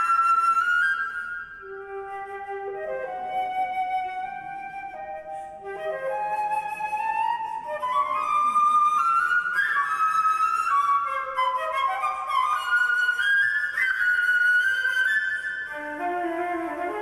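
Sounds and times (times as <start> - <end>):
flute playing held notes: 0.0 - 17.0.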